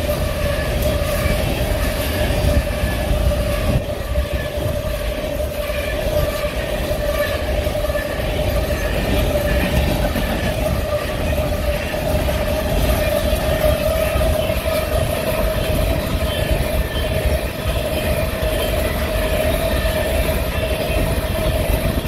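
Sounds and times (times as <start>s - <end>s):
freight train rumbling past: 0.0s - 22.0s
steady whine: 0.0s - 22.0s
wind buffeting microphone: 0.0s - 22.0s.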